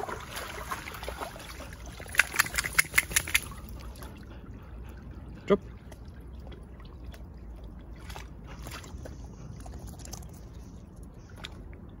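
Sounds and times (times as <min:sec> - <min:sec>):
dog sloshing in water: 0:00.0 - 0:12.0.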